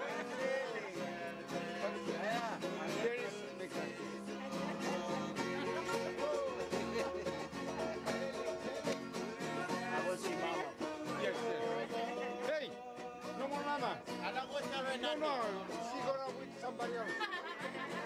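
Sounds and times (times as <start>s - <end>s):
men singing together: 0.0s - 14.0s, 14.6s - 16.8s
strummed acoustic string instrument: 0.0s - 18.0s.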